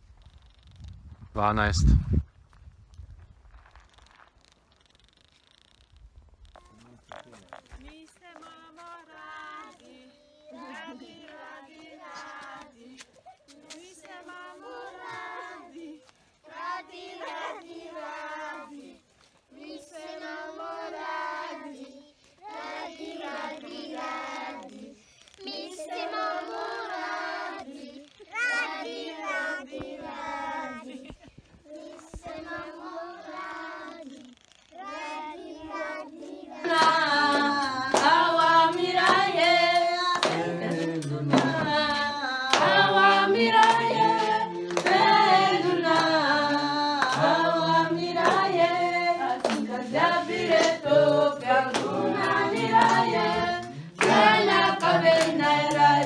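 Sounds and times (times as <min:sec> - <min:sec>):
children singing together: 0:09.1 - 0:18.9, 0:19.5 - 0:56.0.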